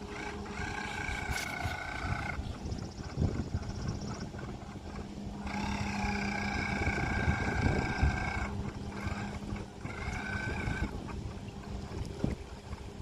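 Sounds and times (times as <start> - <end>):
rc boat motor whining: 0.0 - 13.0.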